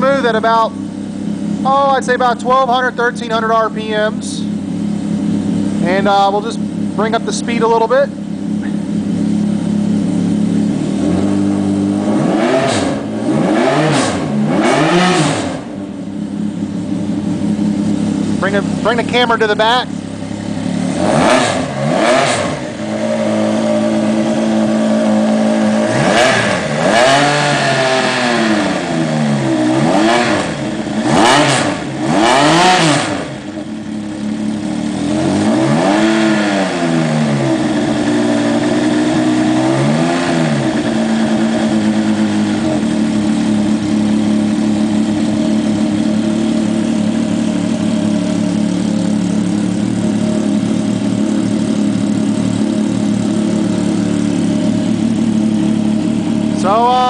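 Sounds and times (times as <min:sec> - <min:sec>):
engine revving and idling: 0:00.0 - 0:57.0.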